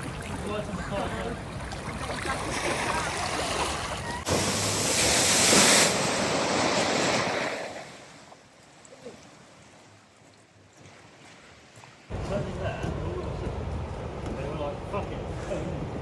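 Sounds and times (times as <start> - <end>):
flood water rushing and splashing: 0.0 - 16.0.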